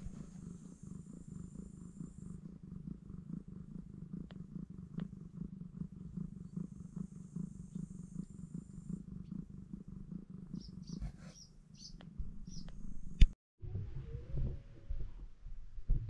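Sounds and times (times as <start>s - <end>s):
cat purring: 0.0s - 13.4s.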